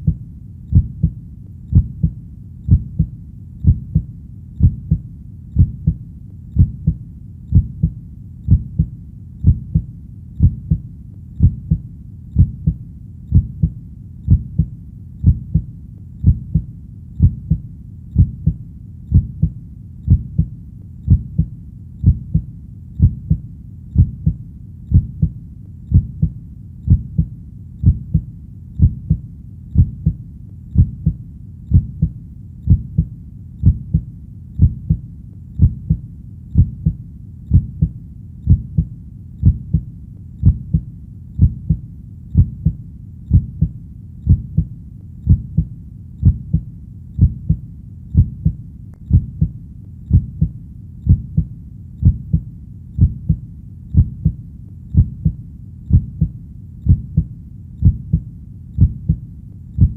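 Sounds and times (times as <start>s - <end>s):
heartbeat thumps: 0.0s - 59.9s
steady low background noise: 0.0s - 59.9s.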